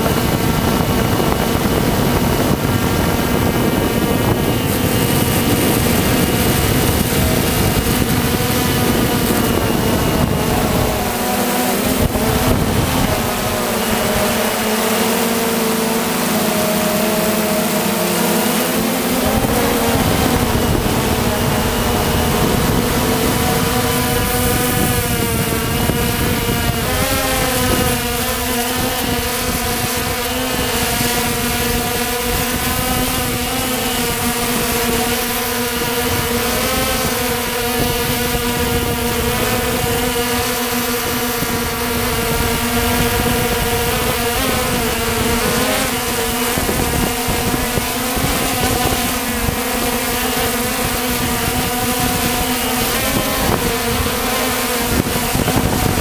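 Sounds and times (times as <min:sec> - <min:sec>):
drone motors and propellers whining: 0:00.0 - 0:56.0.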